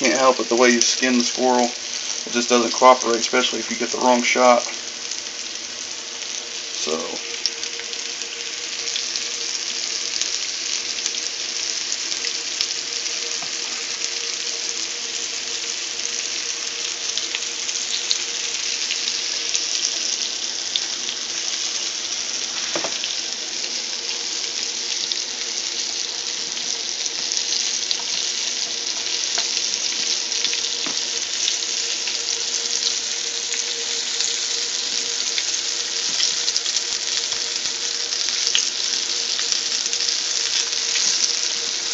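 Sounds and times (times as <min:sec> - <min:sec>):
meat frying in oil: 0:00.0 - 0:41.9.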